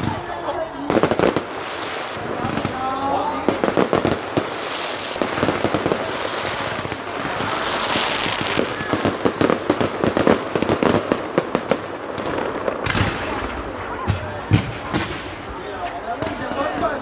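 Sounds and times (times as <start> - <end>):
fireworks crackle and hiss: 0.0 - 17.0
fireworks cracks and bangs: 0.0 - 17.0.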